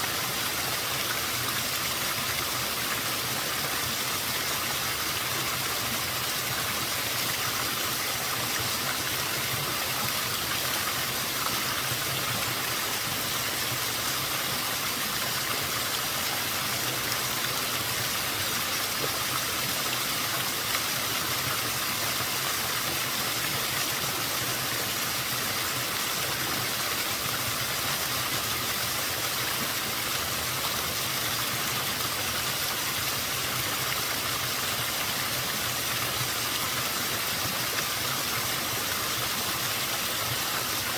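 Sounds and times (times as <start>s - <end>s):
small waterfall running: 0.0s - 40.9s.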